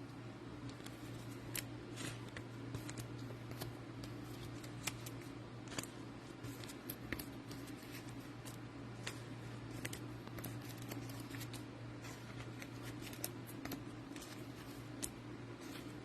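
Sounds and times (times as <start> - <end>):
cards clicking and rustling: 0.6 - 16.0.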